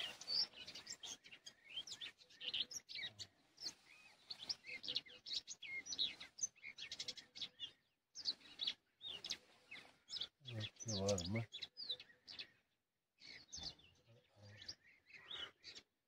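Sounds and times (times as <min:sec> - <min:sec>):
small songbirds chirping and trilling: 0:00.0 - 0:16.0.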